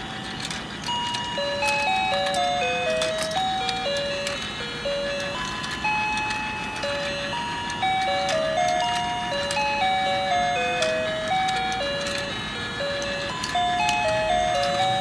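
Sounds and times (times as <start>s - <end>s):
plastic clicks: 0.2s - 12.3s, 12.9s - 15.0s.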